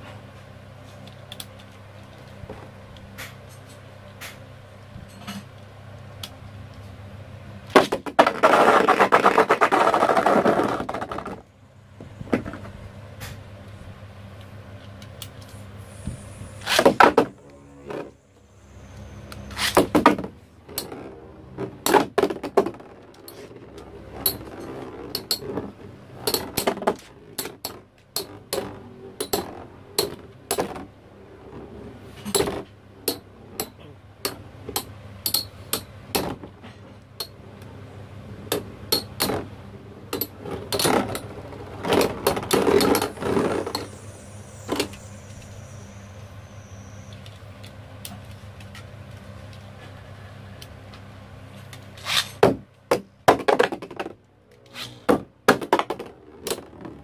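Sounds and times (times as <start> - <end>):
spinning hum: 5.5 - 52.0.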